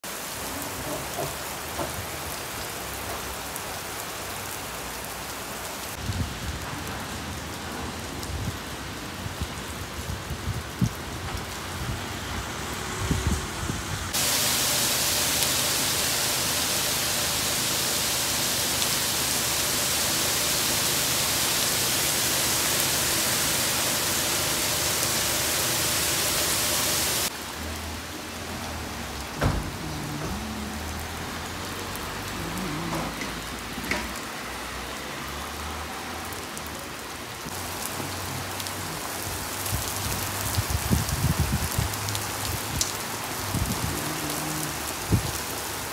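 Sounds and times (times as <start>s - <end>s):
heavy rain on paved street: 0.0s - 45.9s.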